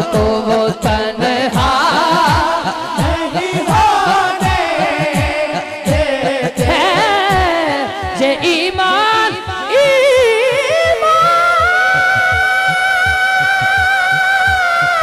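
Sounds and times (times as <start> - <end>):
man singing into a microphone: 0.0 - 15.0
steady low beat: 0.0 - 15.0.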